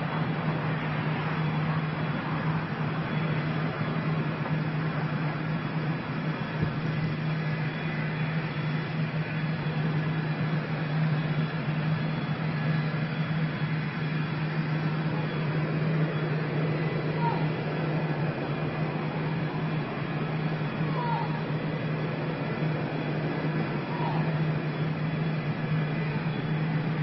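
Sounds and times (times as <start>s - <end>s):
steady mechanical drone: 0.0s - 27.0s.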